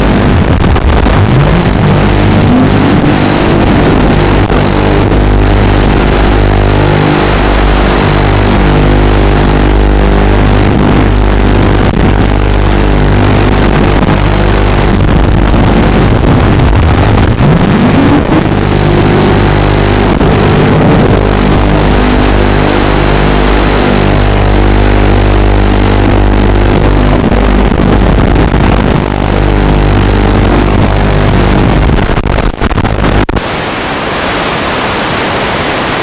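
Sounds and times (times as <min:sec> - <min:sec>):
drone motors and propellers buzzing: 0:00.0 - 0:36.0.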